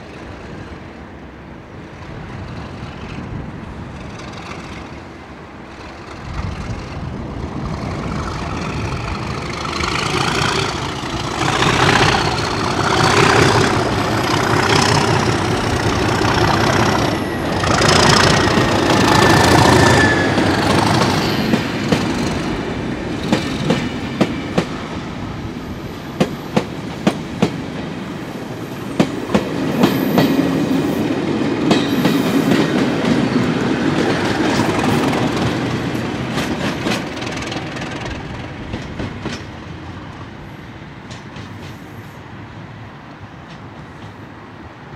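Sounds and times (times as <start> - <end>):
diesel locomotive engine: 0.0 - 44.9
second locomotive engine: 0.0 - 44.9
train wheels clicking over rail joints: 2.3 - 25.0, 26.0 - 28.0, 28.7 - 40.2, 41.0 - 42.2.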